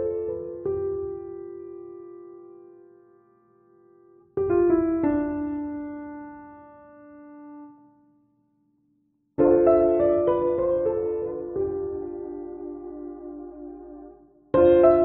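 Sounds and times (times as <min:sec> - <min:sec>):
slow piano chords: 0:00.0 - 0:08.1, 0:09.4 - 0:15.0.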